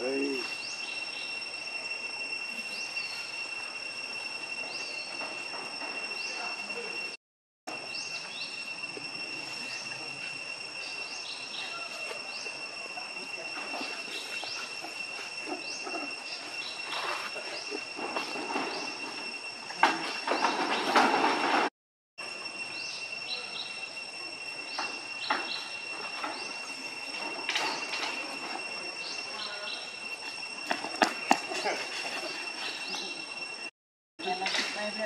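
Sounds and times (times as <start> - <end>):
high-pitched insect drone: 0.0 - 21.6, 22.2 - 35.0
insect chirps: 0.0 - 35.0.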